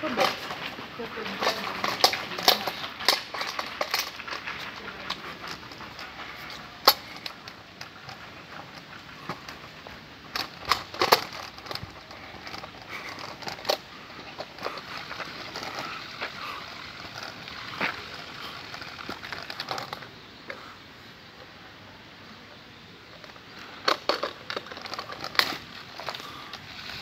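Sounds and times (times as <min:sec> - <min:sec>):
low steady hiss: 0:00.0 - 0:27.0.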